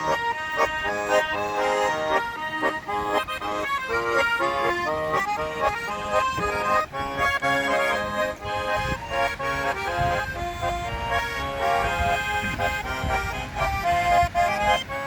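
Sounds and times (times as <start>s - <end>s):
button accordion playing a tune: 0.0s - 15.0s.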